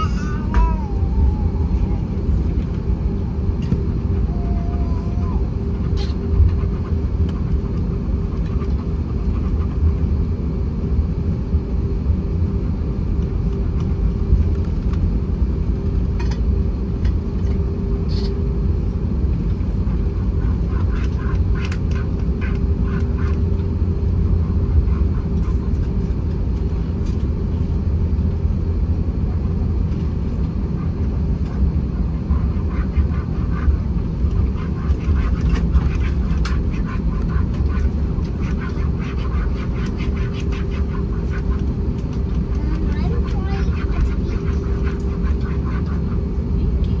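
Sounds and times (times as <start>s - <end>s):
aircraft engines rumbling: 0.0s - 47.0s
steady hum: 0.0s - 47.0s.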